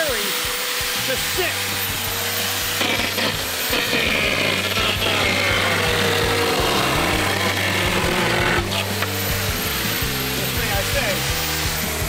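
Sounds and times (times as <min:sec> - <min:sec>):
chainsaw cutting: 0:00.0 - 0:12.0.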